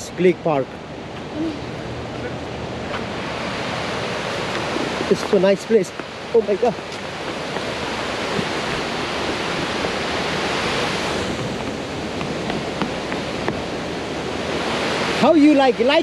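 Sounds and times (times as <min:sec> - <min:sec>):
water rushing over spillway: 0:01.3 - 0:16.0.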